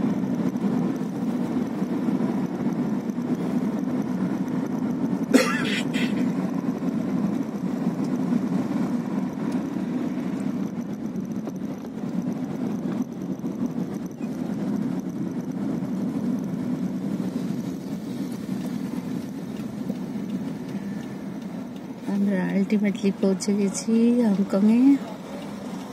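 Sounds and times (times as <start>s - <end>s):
vehicle engine and road noise: 0.0s - 25.9s.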